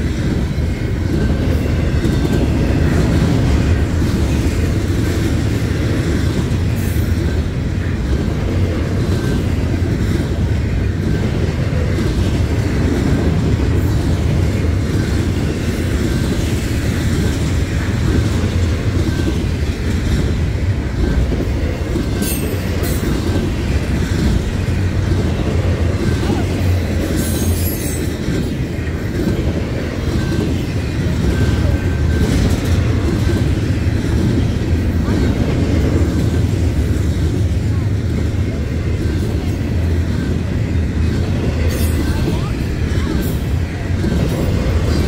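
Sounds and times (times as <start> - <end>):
rumble of steel wheels on rail: 0.0 - 45.0.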